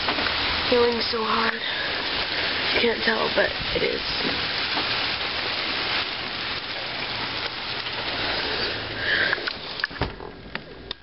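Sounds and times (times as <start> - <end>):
hail pelting down: 0.0 - 11.0.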